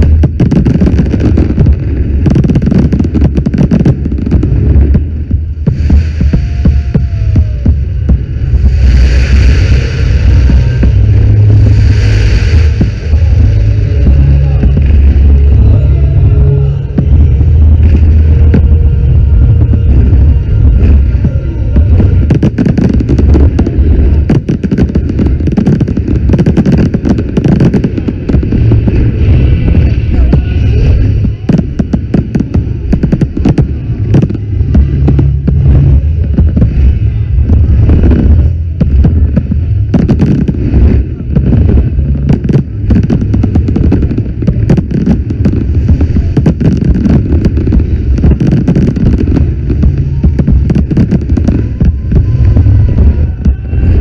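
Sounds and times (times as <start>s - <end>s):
deep rumble: 0.0s - 54.0s
fireworks popping and crackling: 0.0s - 54.0s.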